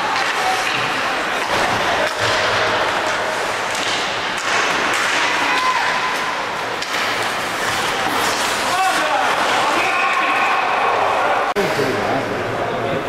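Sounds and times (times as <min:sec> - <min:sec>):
hockey sticks and puck clacking: 0:00.0 - 0:10.8
crowd noise: 0:00.0 - 0:13.0.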